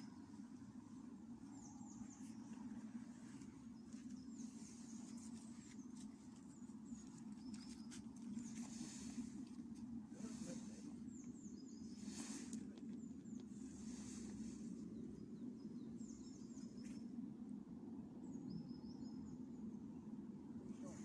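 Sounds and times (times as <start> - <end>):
small birds chirping: 0.0 - 17.3, 18.2 - 20.1
low outdoor hum: 0.0 - 21.0.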